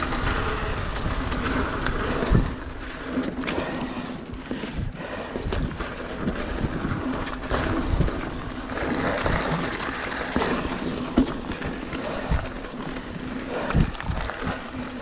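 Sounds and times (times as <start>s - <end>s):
wind on microphone: 0.0s - 3.0s, 3.6s - 15.0s
bike knocking and rattling: 0.0s - 15.0s
bike tyres rolling on dirt: 0.0s - 15.0s.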